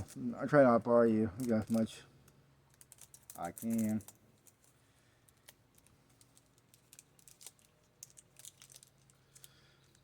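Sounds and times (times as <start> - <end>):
cards and wrapper crinkling: 0.0 - 10.0.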